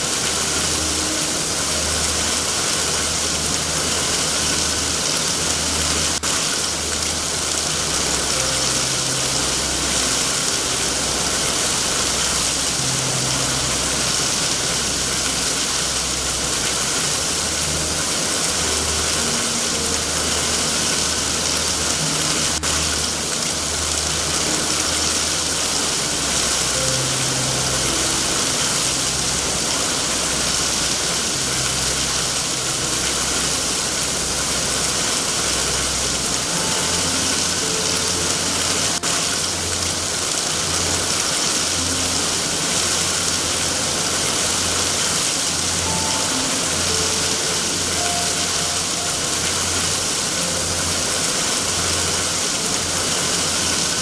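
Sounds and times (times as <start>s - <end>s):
heavy rain hiss: 0.0s - 54.0s
low uneven rumble: 0.0s - 54.0s.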